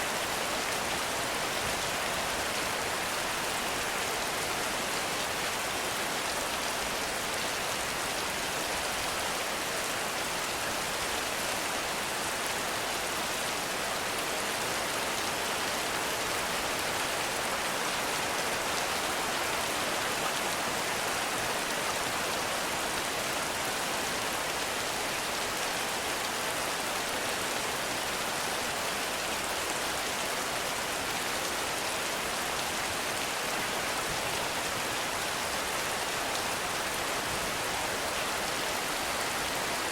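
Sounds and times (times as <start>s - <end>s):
heavy rain on a forest: 0.0s - 39.9s.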